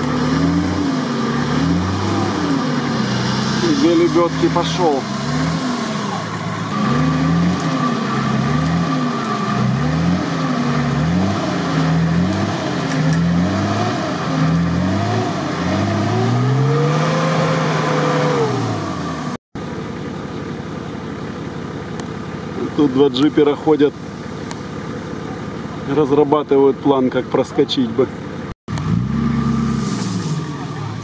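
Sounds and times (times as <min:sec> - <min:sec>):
off-road vehicle engine revving: 0:00.0 - 0:19.4, 0:21.9 - 0:31.0
steady engine sound: 0:00.0 - 0:29.7.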